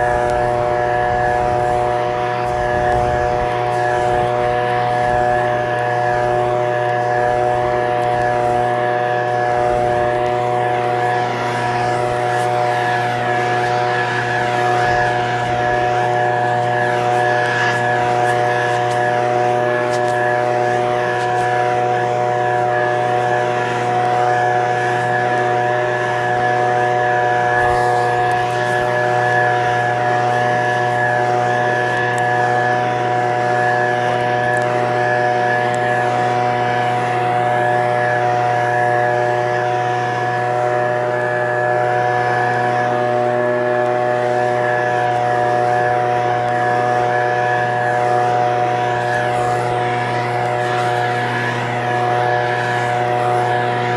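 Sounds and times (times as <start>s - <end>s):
leaf blower engine running: 0.0s - 53.9s.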